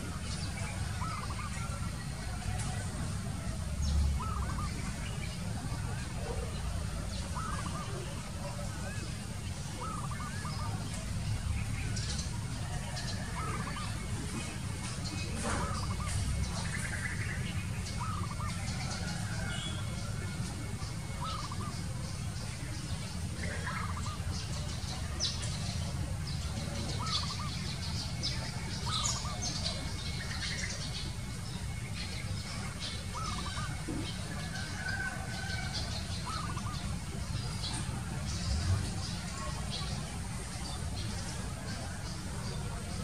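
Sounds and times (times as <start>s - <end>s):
bird arched calls: 0.0s - 43.0s
small birds chirping: 0.0s - 43.0s.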